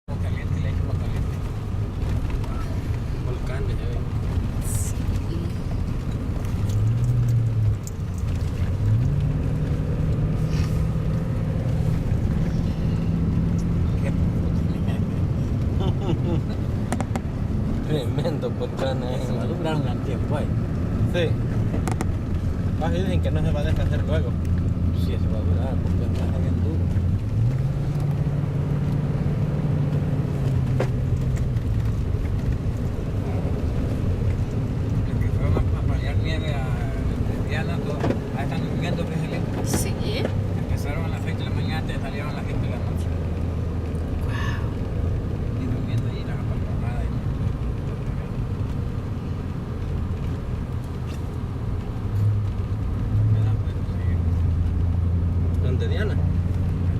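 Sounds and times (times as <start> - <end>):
vehicle engine humming: 0.0 - 56.9.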